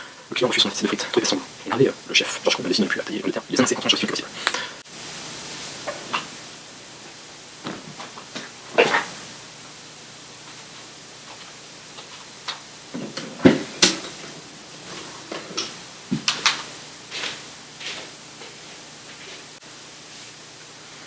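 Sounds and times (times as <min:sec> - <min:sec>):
room noise hiss: 0:00.0 - 0:21.0.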